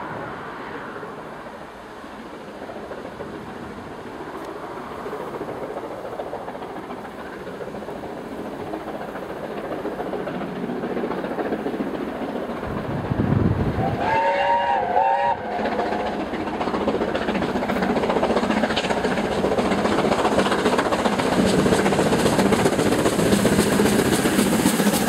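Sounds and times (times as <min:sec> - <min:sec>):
steam locomotive working hard: 0:00.0 - 0:25.0.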